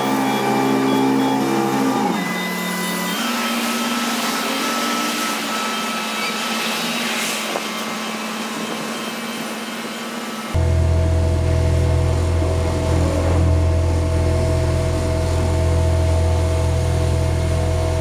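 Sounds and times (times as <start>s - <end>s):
heavy diesel engine: 0.0s - 18.0s.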